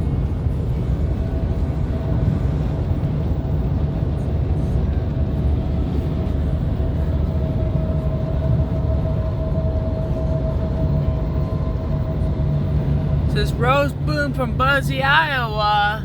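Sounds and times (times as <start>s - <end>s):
thin steady whine: 0.0s - 16.0s
truck engine and tyre drone: 0.0s - 16.0s.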